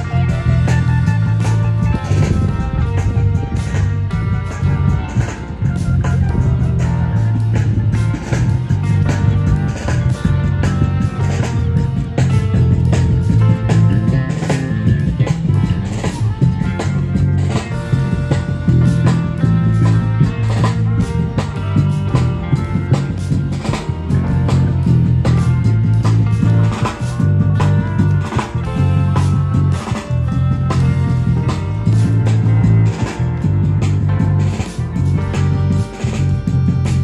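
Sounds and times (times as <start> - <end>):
drum beat: 0.0 - 37.0
street band playing: 0.0 - 37.0.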